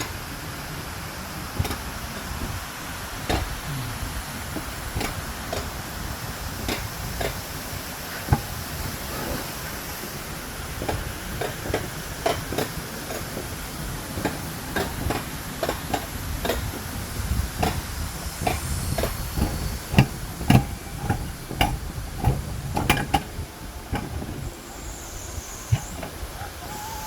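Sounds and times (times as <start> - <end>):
coaster sled rumbling on rail: 0.0 - 27.0.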